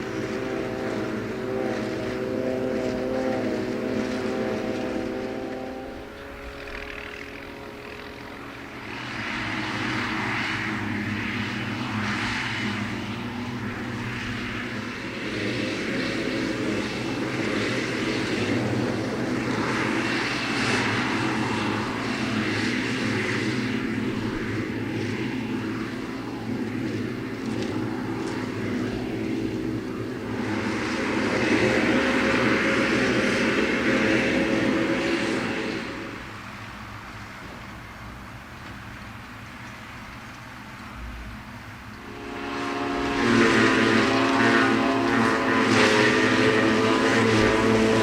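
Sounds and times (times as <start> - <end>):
heavy diesel machinery engines: 0.0 - 48.0
rushing hissing noise: 0.0 - 48.0.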